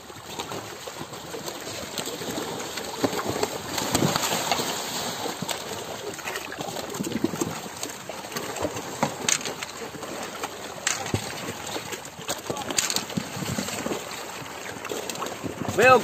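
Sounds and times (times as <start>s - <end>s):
crocodiles scrabbling on ground: 0.2s - 16.0s.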